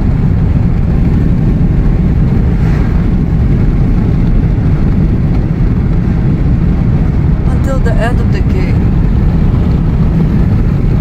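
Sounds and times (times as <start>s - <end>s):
road and engine rumble in vehicle: 0.0s - 11.0s.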